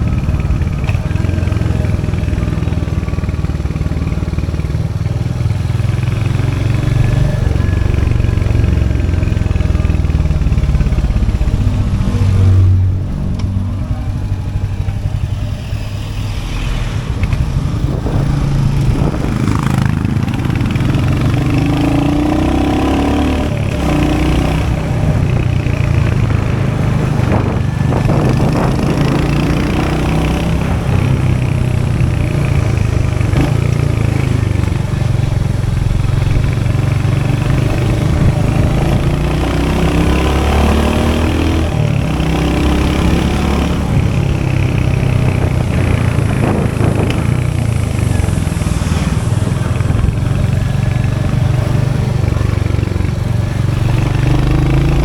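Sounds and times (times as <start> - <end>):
motorcycle engine running: 0.0 - 16.5, 17.1 - 55.0.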